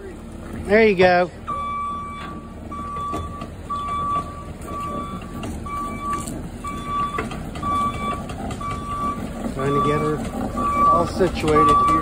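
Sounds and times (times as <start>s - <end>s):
diesel engine running: 0.0s - 12.0s
backup alarm beeping: 1.5s - 12.0s.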